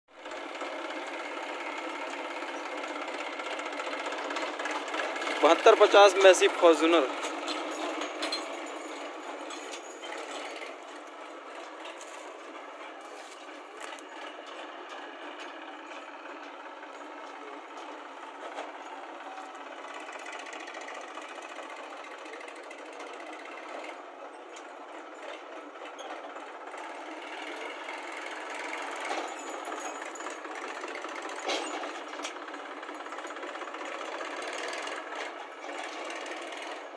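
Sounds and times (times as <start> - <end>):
diesel engines running: 0.1 - 36.9.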